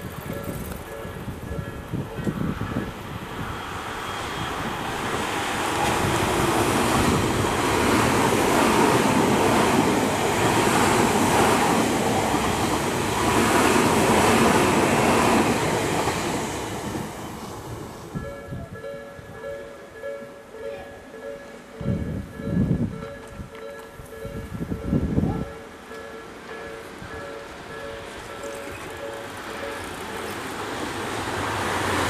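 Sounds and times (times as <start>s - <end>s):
train passing on rails: 0.0s - 32.0s.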